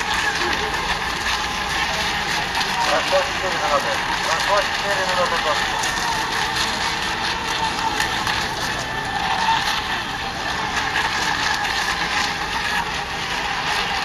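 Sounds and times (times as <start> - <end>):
radio-controlled boat motors whining: 0.0 - 14.0.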